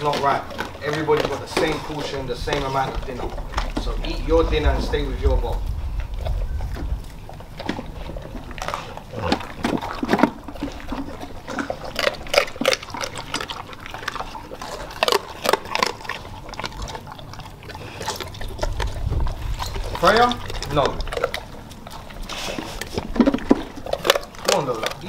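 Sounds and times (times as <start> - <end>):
dog eating from metal bowl: 0.0 - 25.0.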